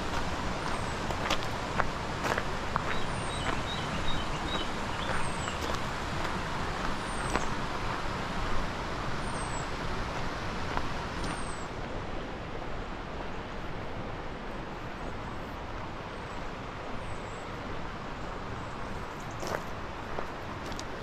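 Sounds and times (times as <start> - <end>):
rushing outdoor noise: 0.0 - 21.0.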